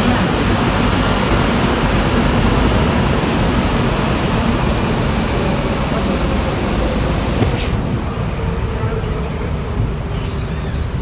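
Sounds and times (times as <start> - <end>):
metro train running noise: 0.0 - 11.0.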